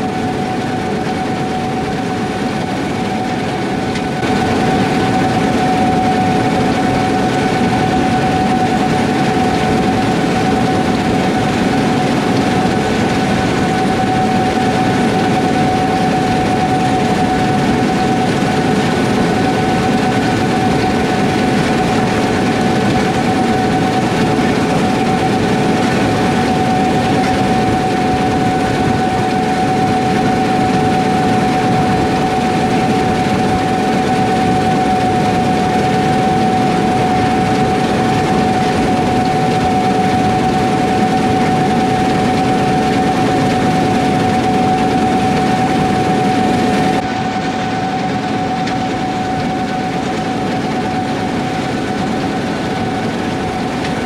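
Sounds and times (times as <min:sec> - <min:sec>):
diesel machinery engine rumble: 0:00.0 - 0:54.0
high even whine: 0:00.0 - 0:54.0.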